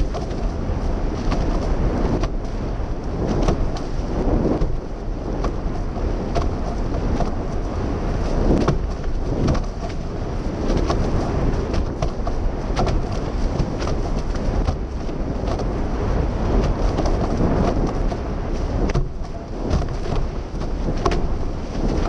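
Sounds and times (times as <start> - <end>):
rushing water: 0.0 - 22.0
wind buffeting microphone: 0.0 - 22.0.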